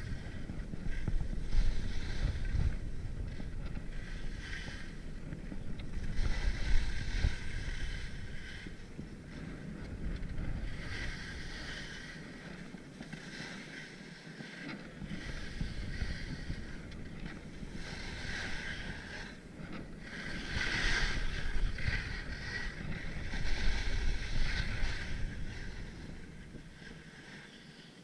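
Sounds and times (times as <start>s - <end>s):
skis scraping over packed snow: 0.0s - 28.0s
wind rumbling on microphone: 0.0s - 28.0s.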